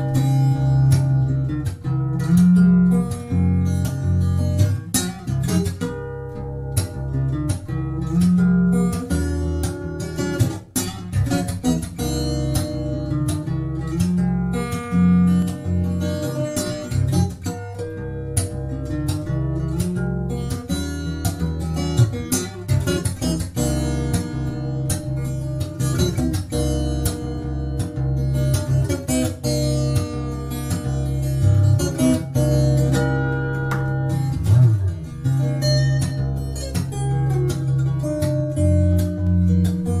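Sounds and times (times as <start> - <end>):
acoustic guitar fingerstyle: 0.0 - 40.0.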